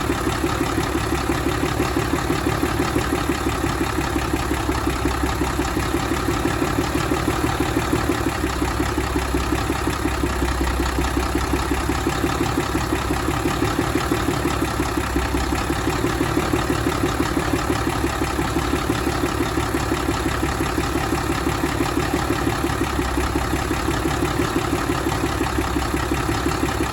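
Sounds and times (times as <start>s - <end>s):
diesel engine idling: 0.0s - 26.9s.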